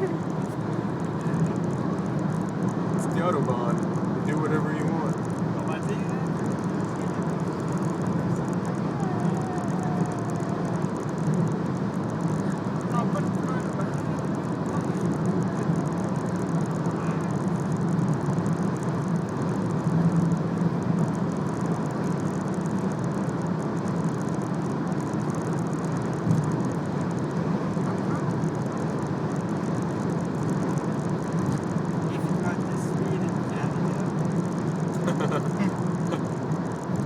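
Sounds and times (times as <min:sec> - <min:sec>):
road and wind noise in car: 0:00.0 - 0:37.0.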